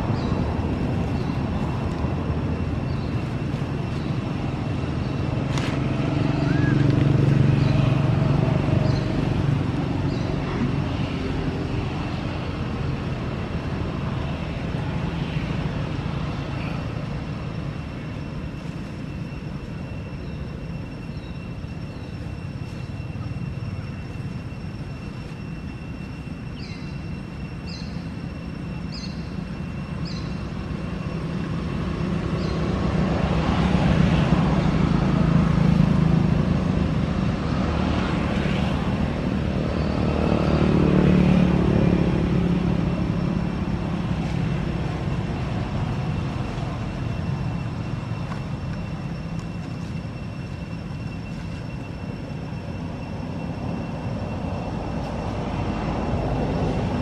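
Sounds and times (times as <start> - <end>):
distant traffic rumble: 0.0 - 57.0
high insect drone: 0.0 - 57.0.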